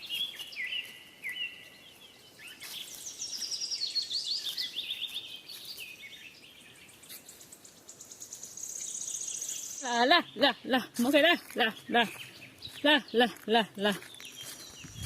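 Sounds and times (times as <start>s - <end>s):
small bird singing: 0.0s - 15.0s.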